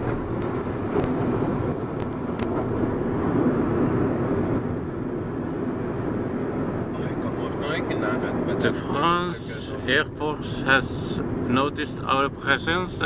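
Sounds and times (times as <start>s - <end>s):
road and engine noise inside car: 0.0s - 13.0s.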